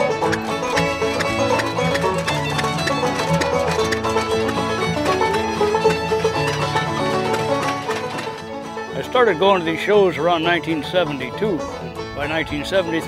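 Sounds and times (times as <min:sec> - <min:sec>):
fiddle: 0:00.0 - 0:13.0
plucked strings: 0:00.0 - 0:13.0.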